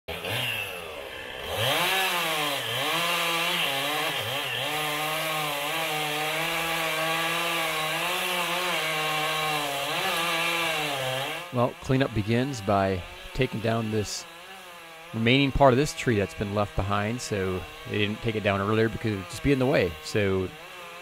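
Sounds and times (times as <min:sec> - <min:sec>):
chainsaw cutting wood: 0:00.1 - 0:21.0
chainsaw revving: 0:00.1 - 0:21.0.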